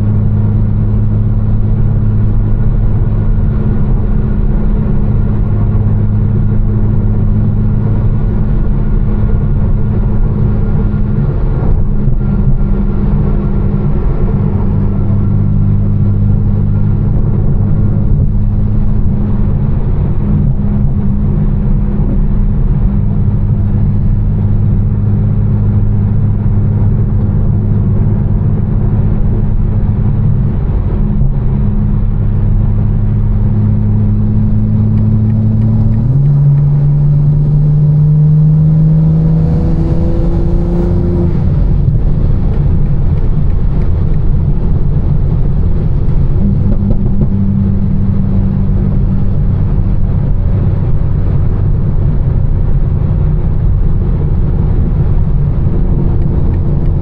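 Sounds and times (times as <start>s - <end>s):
car engine and exhaust drone: 0.0s - 57.0s
tyre and road noise: 0.0s - 57.0s.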